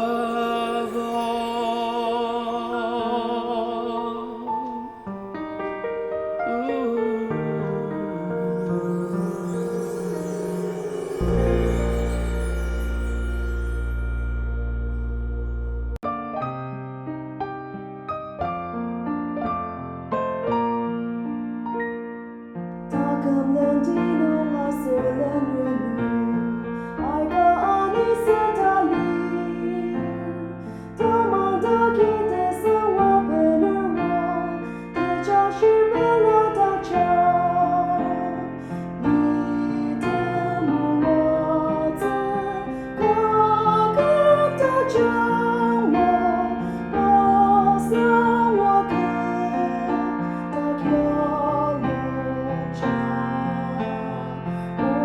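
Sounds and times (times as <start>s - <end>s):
slow worship music on keyboard: 0.0s - 17.0s, 22.7s - 55.0s.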